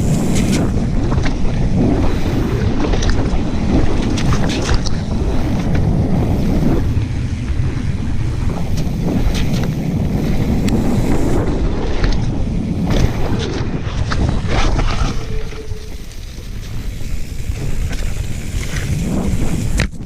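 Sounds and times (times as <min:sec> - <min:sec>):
bike clicks and rattles: 0:00.0 - 0:20.0
bike tyres rumbling on dirt: 0:00.0 - 0:20.0
wind buffeting microphone: 0:00.0 - 0:20.0.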